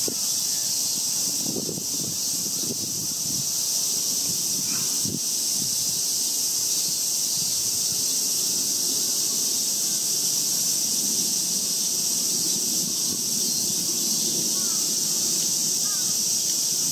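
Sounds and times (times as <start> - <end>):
cicada chorus: 0.0 - 16.9.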